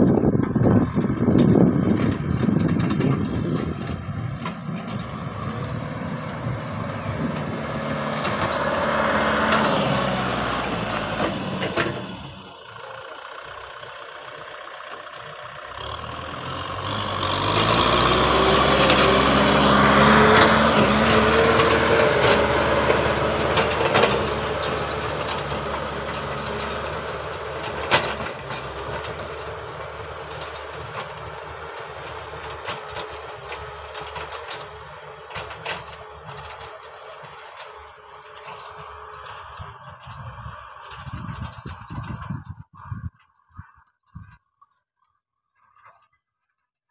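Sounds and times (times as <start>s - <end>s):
tractor diesel engine under load: 0.0s - 46.6s.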